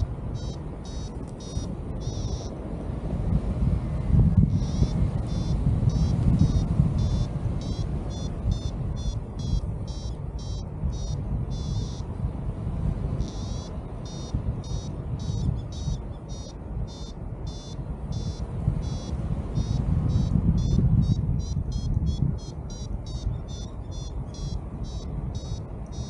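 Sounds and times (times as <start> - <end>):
variometer short high beeps: 0.0 - 2.6, 4.4 - 12.1, 13.2 - 26.0
wind rushing over microphone: 0.0 - 26.0.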